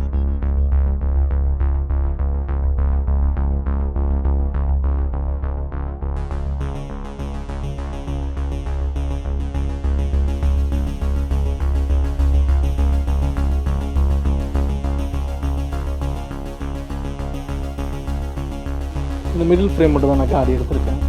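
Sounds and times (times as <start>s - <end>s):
electronic music with heavy bass: 0.0s - 21.0s.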